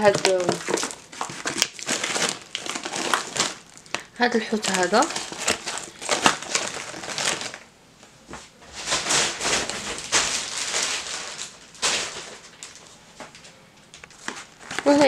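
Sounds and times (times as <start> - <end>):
plastic packaging crinkling: 0.0 - 7.7, 8.7 - 15.0.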